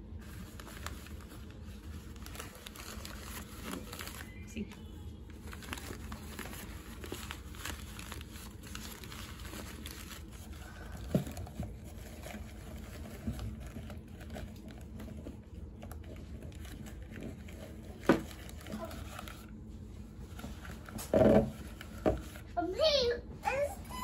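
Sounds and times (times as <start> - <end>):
paper filter crinkling and rustling: 0.0 - 22.6.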